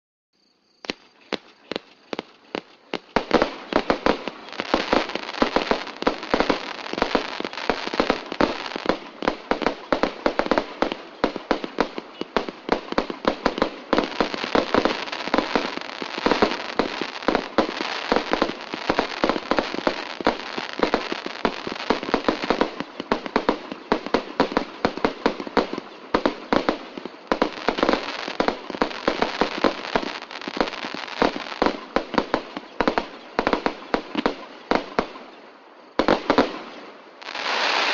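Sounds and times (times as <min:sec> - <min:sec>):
firework battery firing shots: 0:01.7 - 0:35.2.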